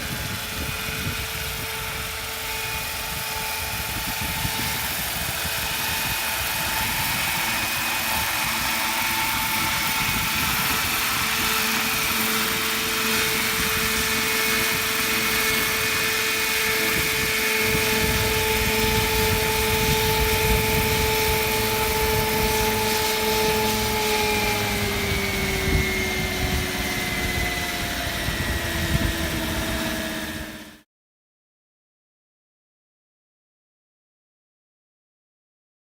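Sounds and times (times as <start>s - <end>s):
model helicopter whine: 0.0s - 30.9s.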